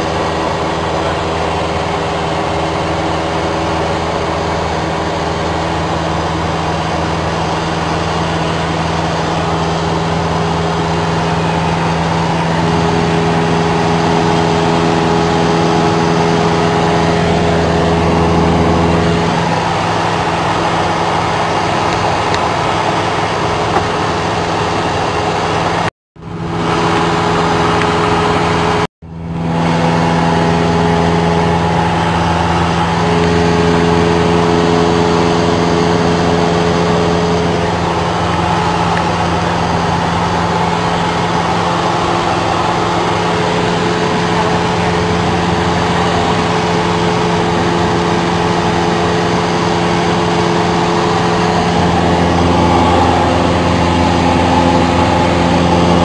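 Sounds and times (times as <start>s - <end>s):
airplane engine drone in cabin: 0.0s - 56.0s.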